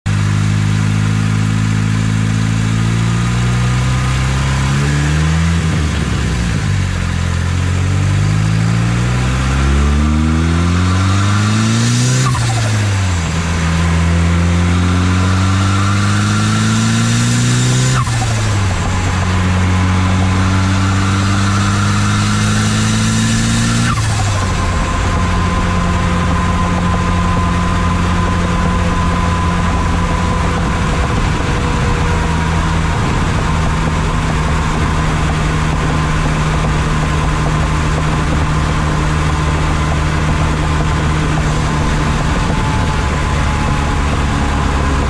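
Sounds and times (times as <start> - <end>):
turbocharged car engine accelerating: 0.1 - 45.0.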